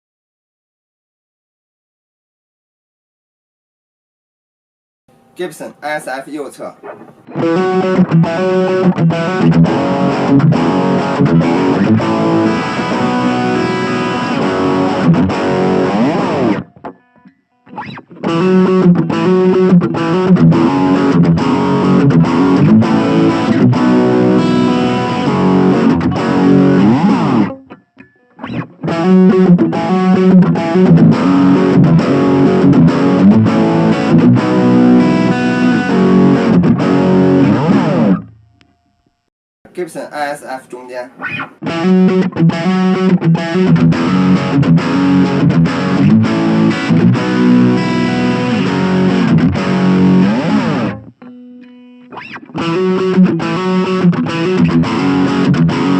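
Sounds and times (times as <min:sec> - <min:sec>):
distorted electric guitar riffs: 0:05.1 - 0:55.9.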